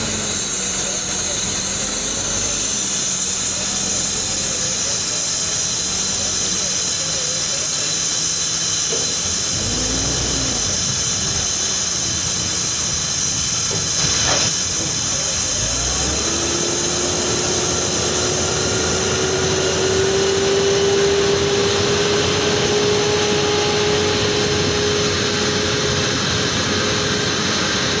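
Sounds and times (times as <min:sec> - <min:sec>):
truck whine rising in pitch: 0:00.0 - 0:06.7, 0:09.2 - 0:28.0
steady loud hiss: 0:00.0 - 0:28.0.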